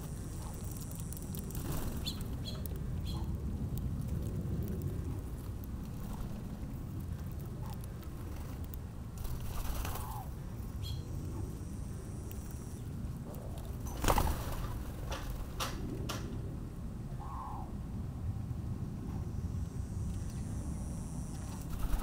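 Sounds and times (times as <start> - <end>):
steady low rumble: 0.0 - 13.8, 14.4 - 22.0.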